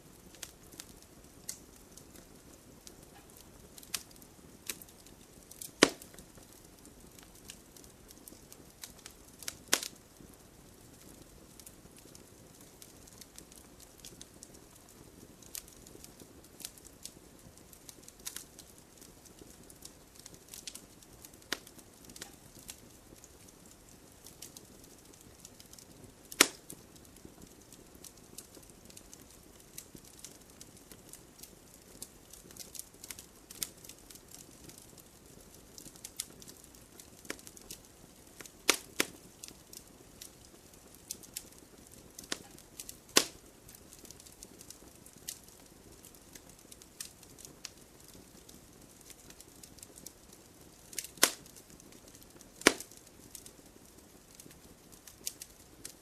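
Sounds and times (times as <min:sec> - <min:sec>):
campfire crackling and popping: 0:00.0 - 0:56.0
faint steady hiss: 0:00.0 - 0:56.0.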